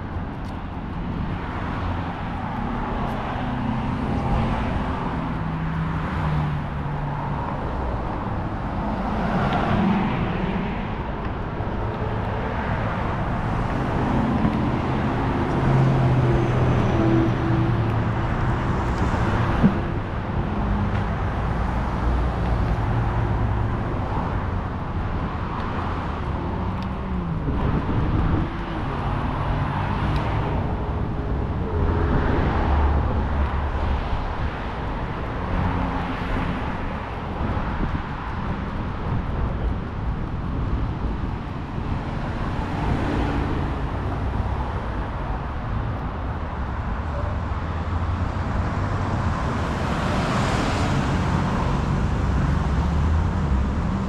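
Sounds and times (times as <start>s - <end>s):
road traffic drone: 0.0s - 54.0s.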